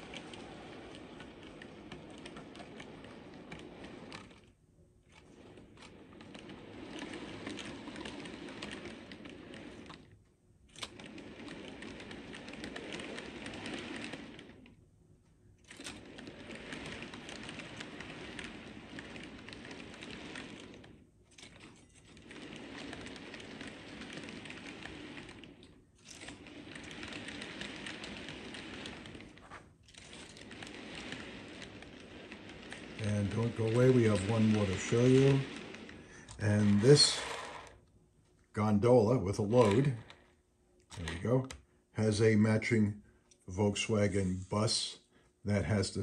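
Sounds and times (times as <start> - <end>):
model train wheels rattling on track: 0.0 - 14.8, 15.6 - 37.9, 38.5 - 46.0.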